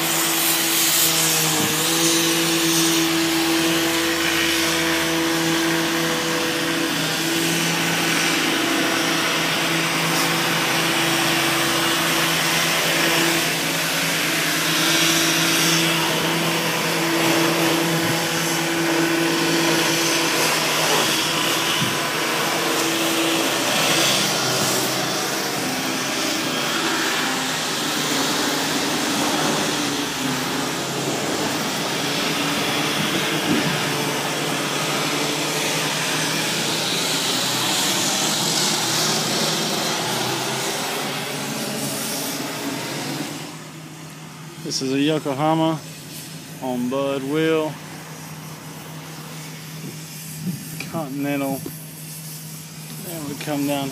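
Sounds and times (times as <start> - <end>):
hiss: 0.0 - 53.9
machine-like drone: 0.0 - 53.9.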